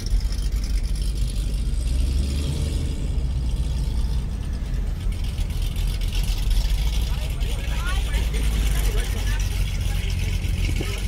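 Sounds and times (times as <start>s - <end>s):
car engine idling with lope: 0.0s - 11.0s.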